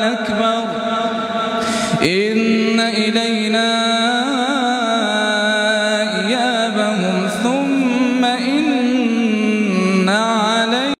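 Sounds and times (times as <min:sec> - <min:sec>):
person chanting melodically: 0:00.0 - 0:10.9.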